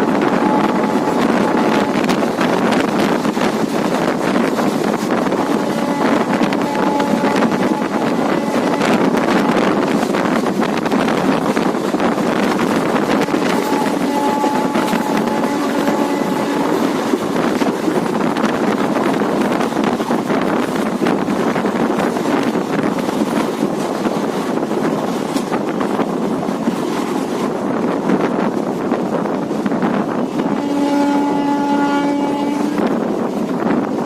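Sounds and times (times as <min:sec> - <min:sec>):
train running noise from on board: 0:00.0 - 0:34.0
wind buffeting microphone: 0:00.0 - 0:34.0.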